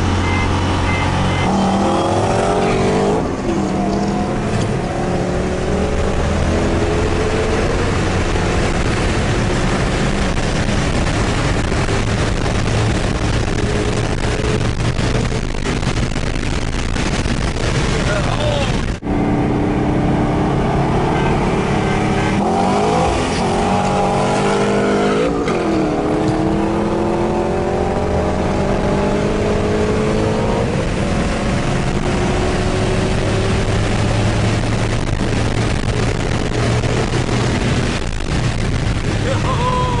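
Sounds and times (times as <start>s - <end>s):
car engine accelerating hard: 0.0s - 40.0s.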